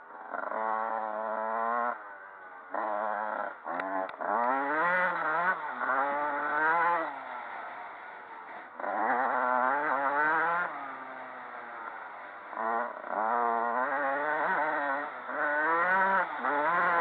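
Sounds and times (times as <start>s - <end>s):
dirt bike engine revving: 0.2s - 17.0s.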